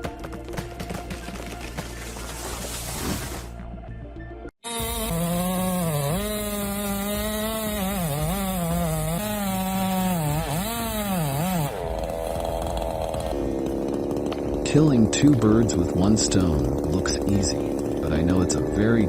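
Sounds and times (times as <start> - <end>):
chainsaw cutting wood: 0.5 - 3.5, 4.6 - 19.0.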